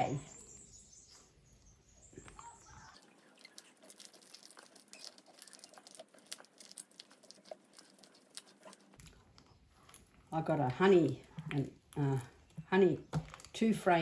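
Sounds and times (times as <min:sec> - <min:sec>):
wax honeycomb crackling: 0:01.1 - 0:14.0.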